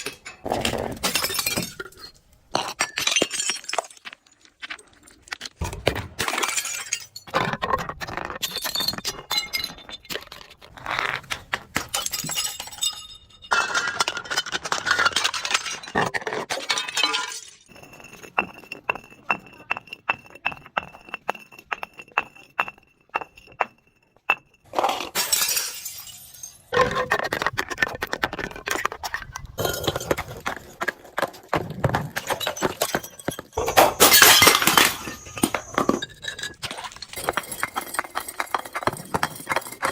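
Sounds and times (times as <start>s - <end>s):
glass shattering and crunching: 0.0s - 10.7s, 11.7s - 19.5s, 20.1s - 26.9s, 31.5s - 39.9s.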